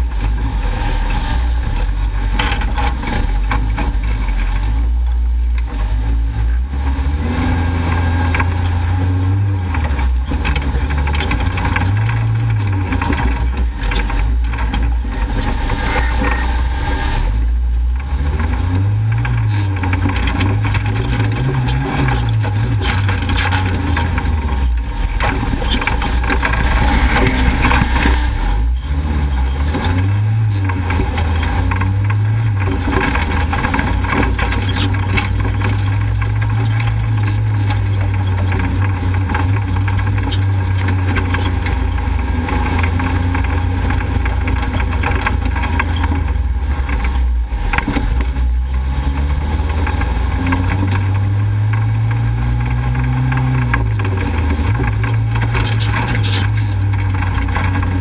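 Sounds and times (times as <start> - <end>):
vehicle knocks and rattles: 0.0 - 4.7, 9.7 - 16.7, 18.0 - 58.0
off-road vehicle engine revving: 0.0 - 58.0.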